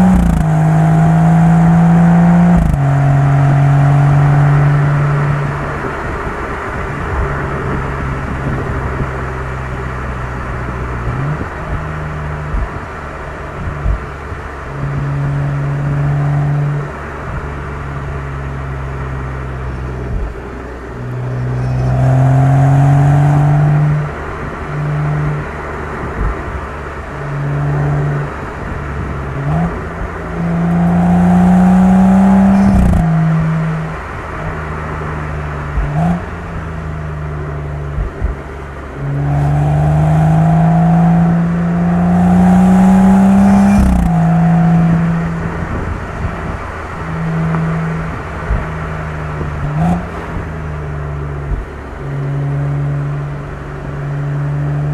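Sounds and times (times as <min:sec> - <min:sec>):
car exhaust under hard acceleration: 0:00.0 - 0:54.9
exhaust crack at upshift: 0:00.0 - 0:54.9.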